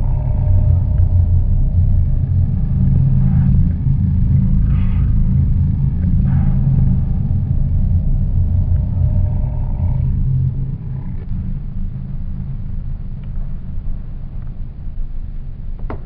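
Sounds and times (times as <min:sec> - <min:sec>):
faint hissing swells: 0:00.0 - 0:14.9
deep rumbling drone: 0:00.0 - 0:16.0.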